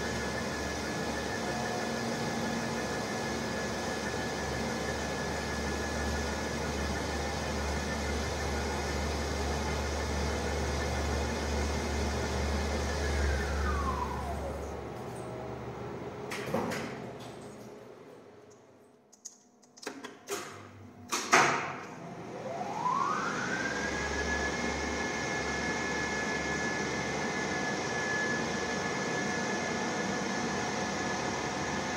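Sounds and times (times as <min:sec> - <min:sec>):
lift machine high whine: 0:00.0 - 0:16.3, 0:21.9 - 0:31.9.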